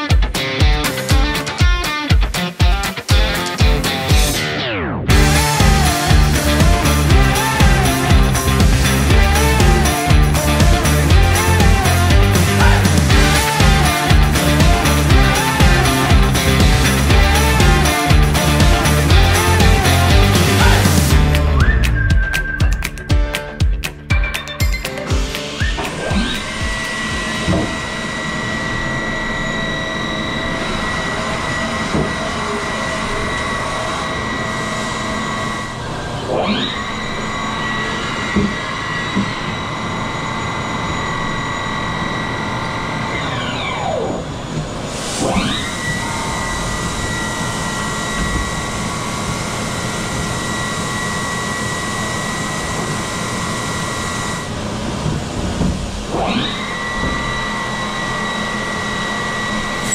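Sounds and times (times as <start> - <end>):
steady machine noise: 0.0 - 22.7, 25.0 - 59.9
machine spindle whining: 4.3 - 22.6, 25.4 - 59.9.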